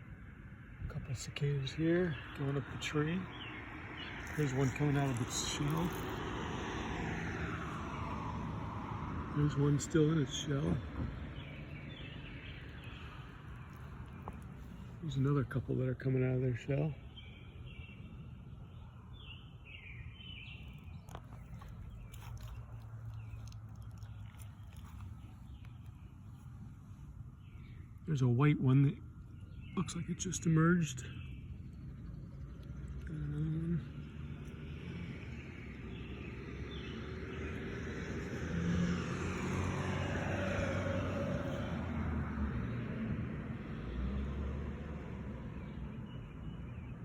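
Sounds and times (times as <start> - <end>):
songbird singing: 0.0 - 47.0
vehicle engine hum: 0.0 - 47.0.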